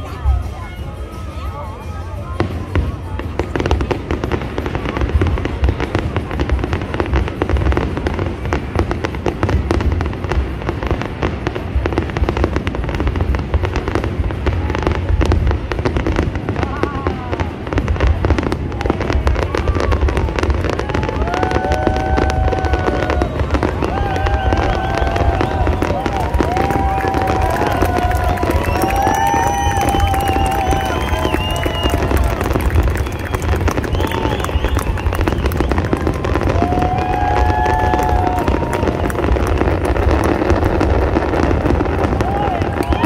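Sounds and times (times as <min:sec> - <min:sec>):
fireworks booming and crackling: 0:00.0 - 0:43.0.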